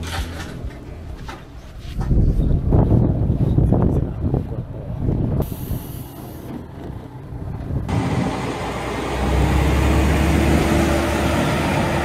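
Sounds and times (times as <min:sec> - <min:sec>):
diesel railcar engine rumbling: 0:00.0 - 0:12.0.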